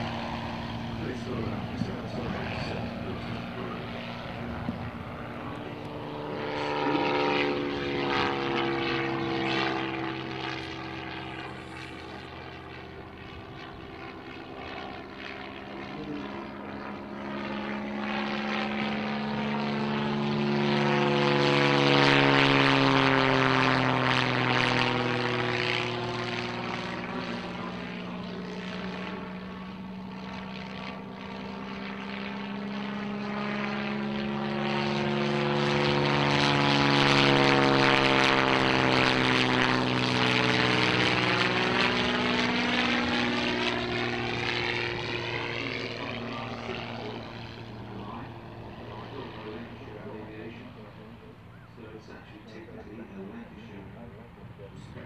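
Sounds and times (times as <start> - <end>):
propeller aircraft passing: 0.0 - 55.0.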